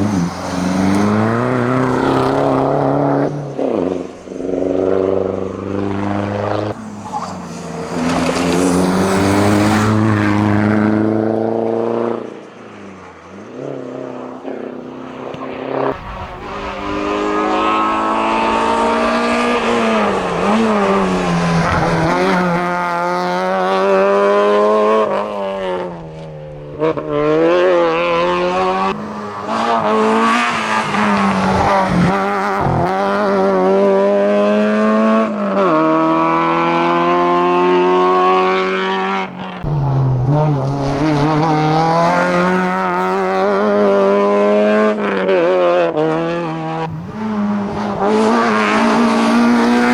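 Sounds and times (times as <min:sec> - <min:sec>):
car engine at full throttle: 0:00.0 - 0:49.9.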